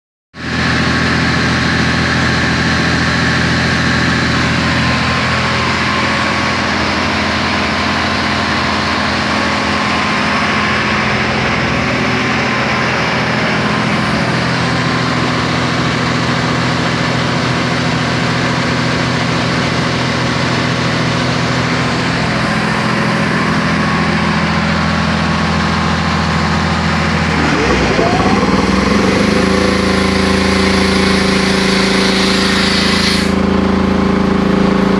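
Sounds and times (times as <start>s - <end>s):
rising whine: 0.4s - 33.9s
air compressor running: 0.4s - 34.9s.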